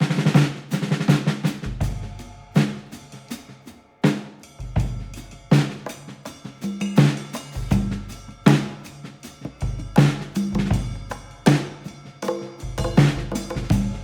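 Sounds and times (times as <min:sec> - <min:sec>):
drum kit beat: 0:00.0 - 0:14.0.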